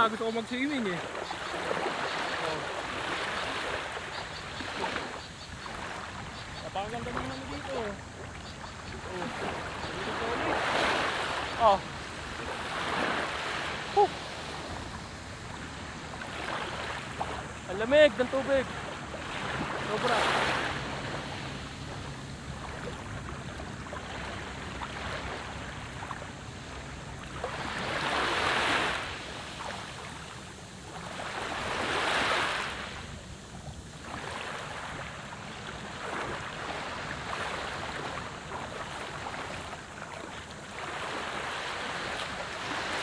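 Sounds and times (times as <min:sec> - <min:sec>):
sea waves breaking: 0:00.0 - 0:43.0.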